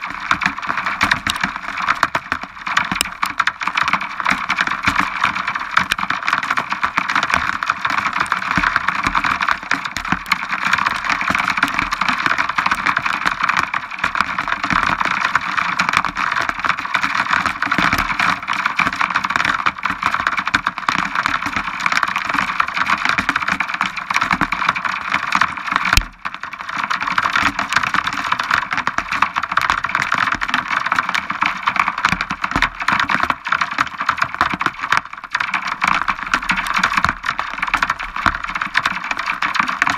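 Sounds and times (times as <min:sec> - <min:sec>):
heavy rain on a hard surface: 0:00.0 - 0:39.9.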